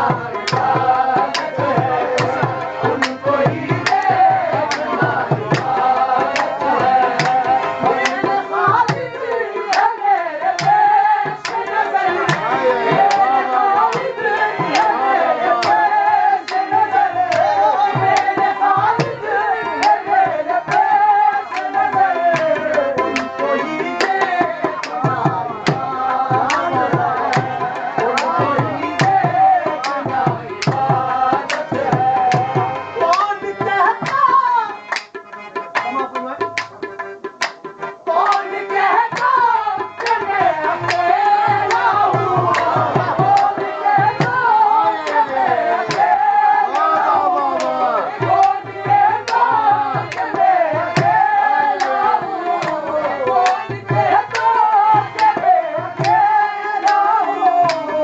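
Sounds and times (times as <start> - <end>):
harmonium: 0.0 - 58.0
men singing: 0.0 - 58.0
tabla rhythm: 0.0 - 58.0.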